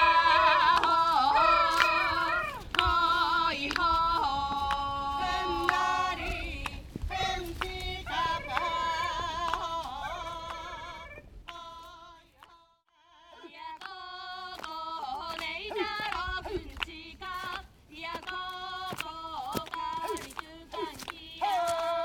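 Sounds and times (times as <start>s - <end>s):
women singing: 0.0s - 22.0s.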